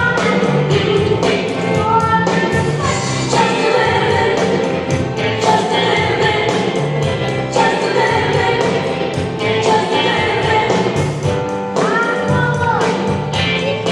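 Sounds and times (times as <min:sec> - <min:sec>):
music with singing over a beat: 0:00.0 - 0:13.9.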